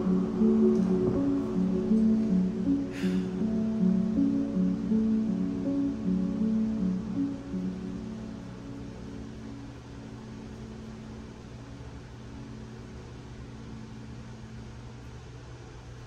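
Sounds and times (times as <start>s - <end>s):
faint low hum: 0.0s - 16.0s
soft background music: 0.0s - 16.0s
steady low hiss: 0.0s - 16.0s.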